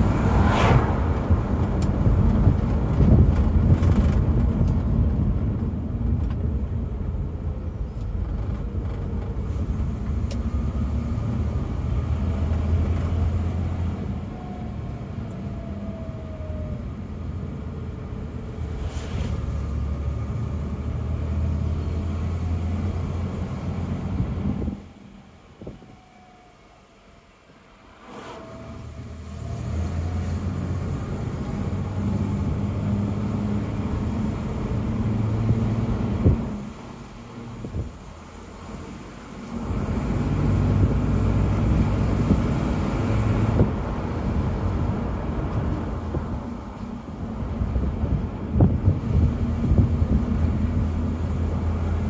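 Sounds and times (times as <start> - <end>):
car passing: 0.0 - 4.2, 9.4 - 52.0
road and tyre noise: 0.0 - 52.0.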